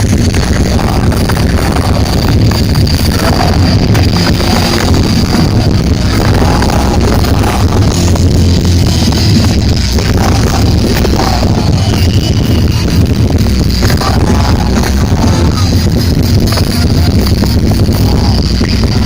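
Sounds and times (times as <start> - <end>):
distorted punk rock band: 0.0 - 19.0.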